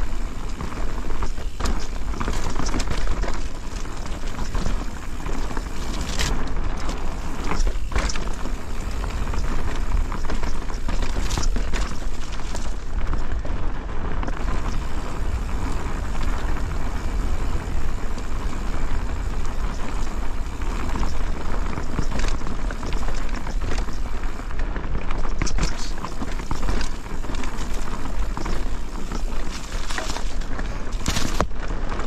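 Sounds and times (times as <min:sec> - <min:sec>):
bike rattling over bumps: 0:00.0 - 0:32.0
tyres rushing on dirt and leaves: 0:00.0 - 0:32.0
wind rumble on microphone: 0:00.0 - 0:32.0.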